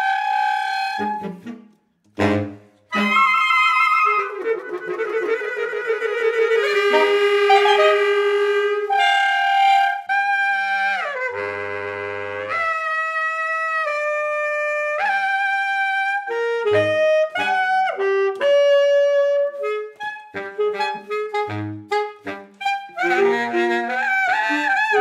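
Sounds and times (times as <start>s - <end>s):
saxophone quartet playing: 0.0s - 25.0s.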